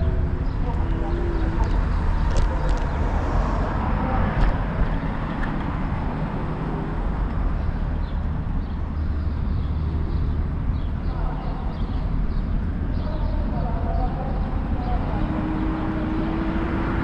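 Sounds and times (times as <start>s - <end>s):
steady outdoor rumble: 0.0s - 17.0s.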